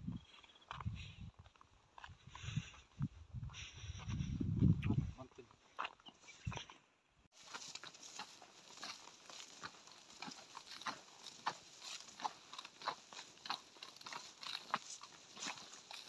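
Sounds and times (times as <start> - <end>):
footsteps on dry soil: 0.0 - 16.0.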